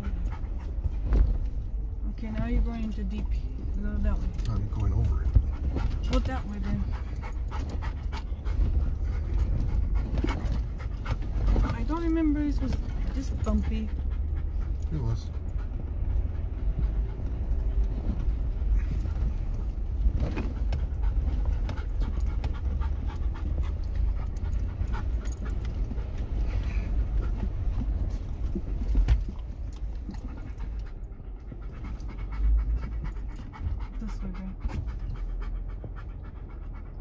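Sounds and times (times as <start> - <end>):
dog panting: 0.0 - 37.0
vehicle low rumble: 0.0 - 37.0
rattles and knocks from bumps: 0.2 - 32.1.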